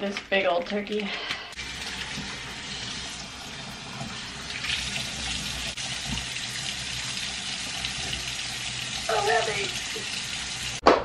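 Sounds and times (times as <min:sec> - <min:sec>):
tap water running into a sink: 0:01.6 - 0:10.8.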